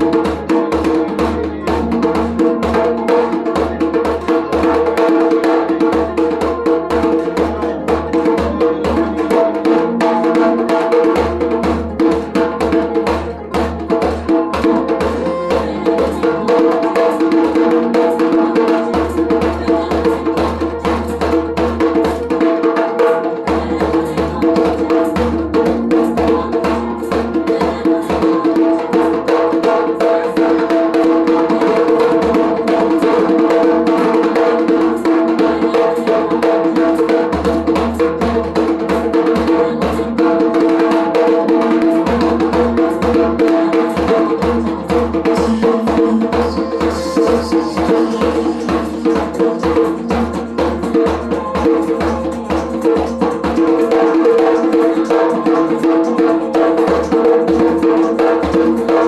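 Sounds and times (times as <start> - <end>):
djembe played with hands: 0.0 - 59.0.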